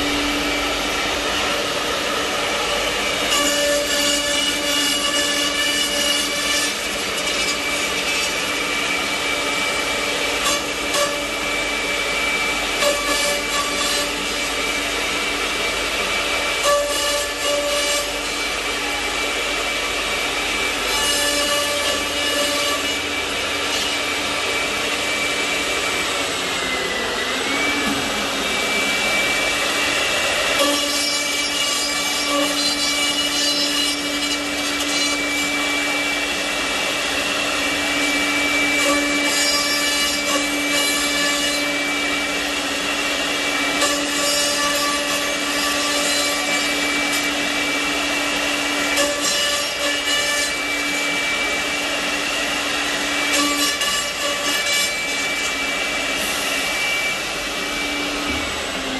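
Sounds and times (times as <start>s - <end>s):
machine spindle whine: 0.0s - 58.9s.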